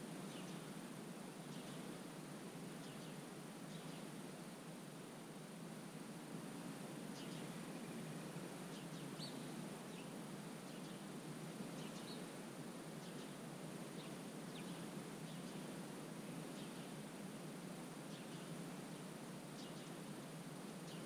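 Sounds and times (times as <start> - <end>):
low rush of background noise: 0.0 - 21.0.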